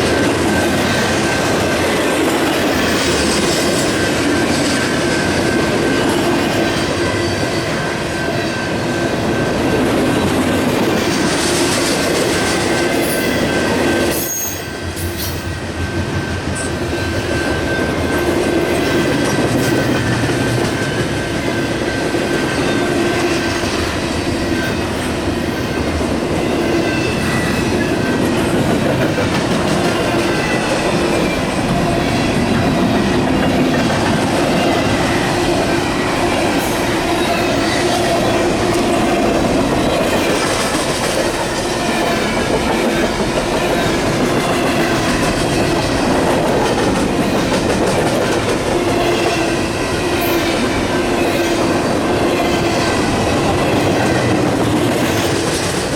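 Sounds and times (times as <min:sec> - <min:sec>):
clickety-clack over rail joints: 0:00.0 - 0:55.9
train wheels on rails: 0:00.0 - 0:55.9.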